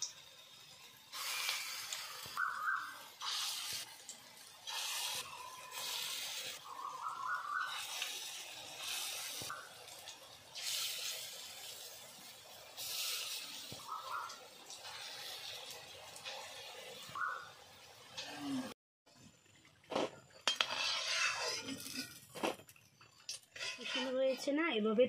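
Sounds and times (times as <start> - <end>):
batter sizzling in hot oil: 0.0 - 18.2, 19.8 - 24.2.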